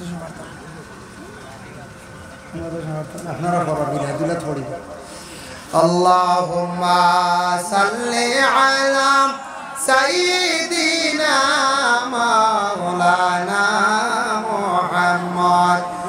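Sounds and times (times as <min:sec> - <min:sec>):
man chanting: 0:02.5 - 0:05.0, 0:05.6 - 0:16.0.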